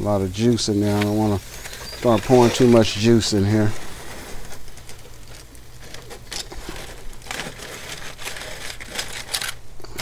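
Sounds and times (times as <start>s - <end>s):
low steady hum: 0.0s - 10.0s
aluminium foil crinkling: 0.4s - 10.0s.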